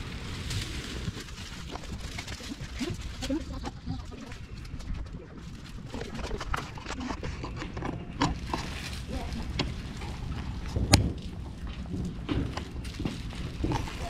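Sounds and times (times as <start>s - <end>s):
plastic-wrapped mattress knocking and rustling: 0.0s - 6.4s, 7.7s - 14.0s.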